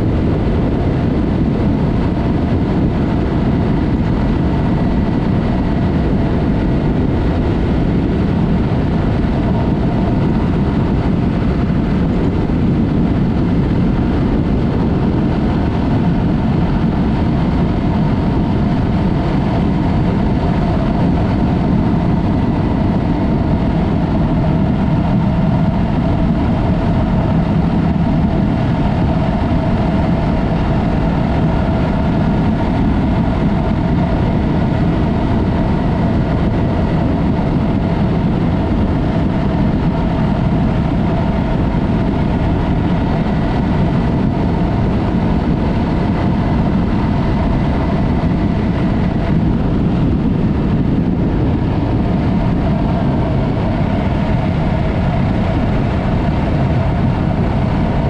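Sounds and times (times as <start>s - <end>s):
motorcycle engine drone: 0.0s - 58.0s
wind rush: 0.0s - 58.0s.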